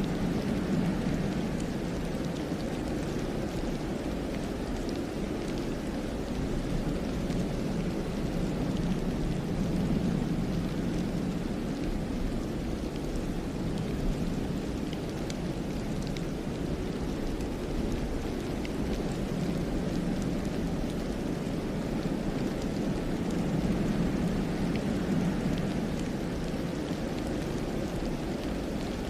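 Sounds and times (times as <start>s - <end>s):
snowstorm wind through forest: 0.0s - 29.0s.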